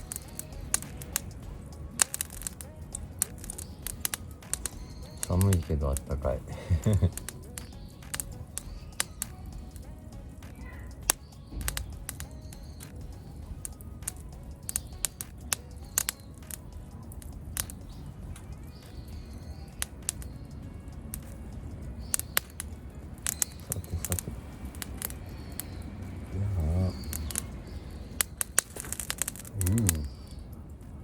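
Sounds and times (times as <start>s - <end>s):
birds chirping faintly: 0.0s - 31.0s
wood fire crackling and popping: 0.0s - 31.0s.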